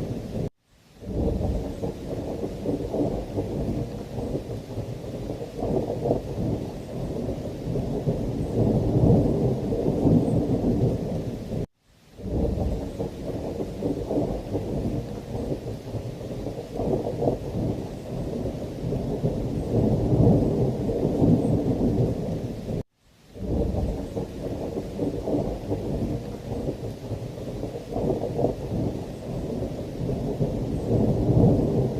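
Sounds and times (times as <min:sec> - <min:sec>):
rolling thunder rumble: 0:00.0 - 0:22.8, 0:23.4 - 0:31.9
heavy rain: 0:00.0 - 0:31.9.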